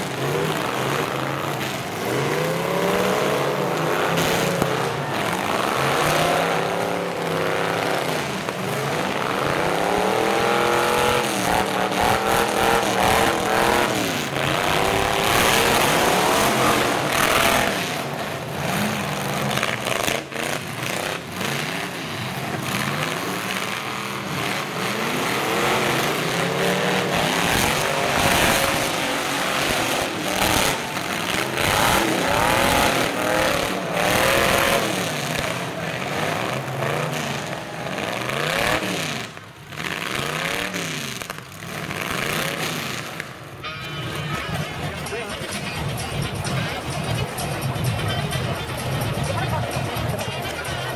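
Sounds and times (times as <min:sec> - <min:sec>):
truck engines revving hard: 0:00.0 - 0:50.9.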